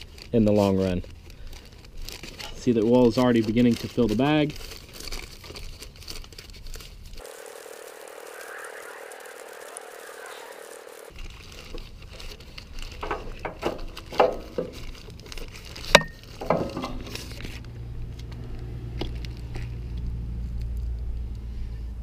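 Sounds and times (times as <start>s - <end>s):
plastic bag crinkling: 0.0s - 17.7s.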